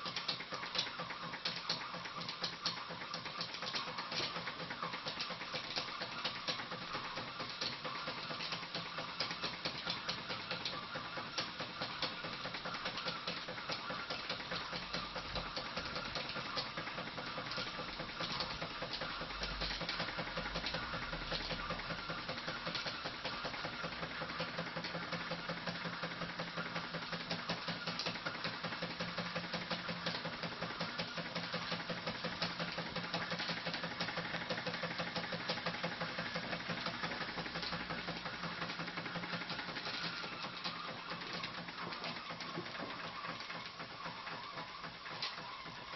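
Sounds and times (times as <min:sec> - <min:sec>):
toy steam engine chuffing: 0:00.0 - 0:45.9.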